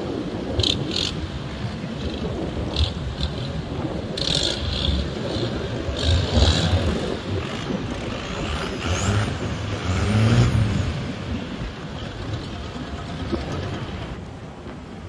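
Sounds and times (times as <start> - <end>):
speedboat engines running: 0.0 - 15.0
water rushing: 0.0 - 15.0
wind buffeting: 0.0 - 15.0.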